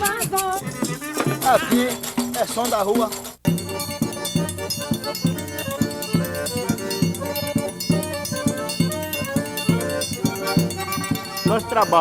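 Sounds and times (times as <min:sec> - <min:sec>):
accordion chords: 0:00.0 - 0:12.0
light high percussion: 0:00.0 - 0:12.0
quick drum beat: 0:00.0 - 0:12.0.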